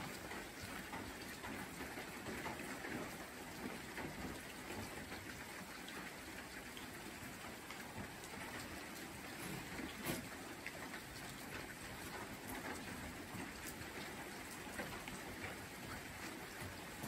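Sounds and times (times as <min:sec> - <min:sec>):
raindrops ticking: 0:00.0 - 0:17.0
steady rain: 0:00.0 - 0:17.0.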